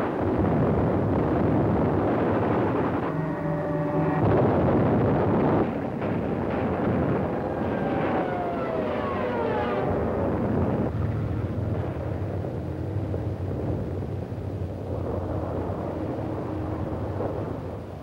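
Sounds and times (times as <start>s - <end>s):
roar of explosions and fire: 0.0s - 18.0s.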